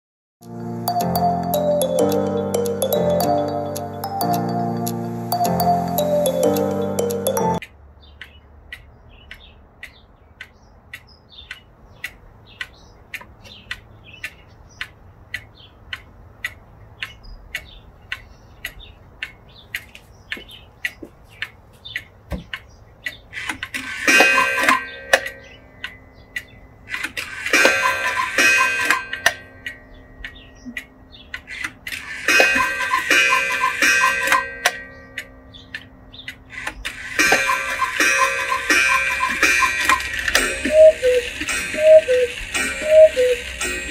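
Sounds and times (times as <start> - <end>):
clock ticking: 0.4 - 43.9
breathy clock bird calls: 5.3 - 43.9.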